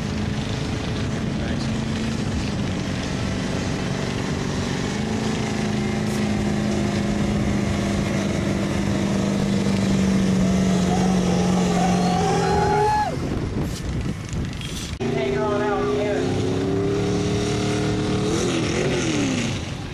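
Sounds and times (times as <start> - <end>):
diesel engine working under load: 0.0 - 19.9.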